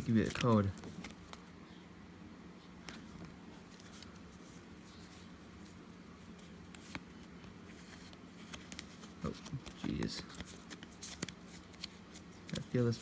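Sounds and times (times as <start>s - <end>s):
trading cards rustling: 0.0s - 1.5s, 2.8s - 13.0s
room hum: 0.0s - 13.0s.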